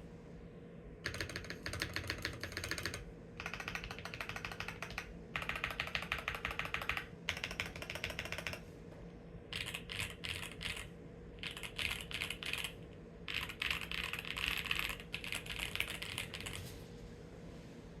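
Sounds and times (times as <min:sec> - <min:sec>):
mechanical keyboard typing: 0:01.0 - 0:08.6, 0:09.5 - 0:16.7.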